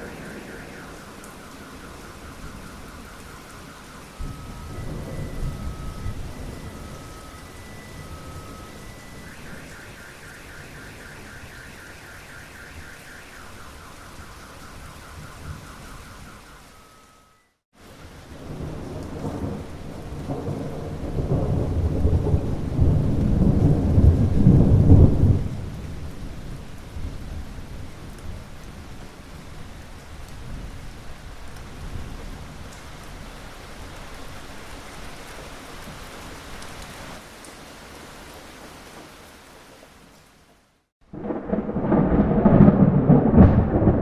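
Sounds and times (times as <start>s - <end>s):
thunder rumbling: 0.0s - 17.1s, 18.0s - 34.5s, 41.0s - 44.0s
steady rain hissing: 0.0s - 44.0s.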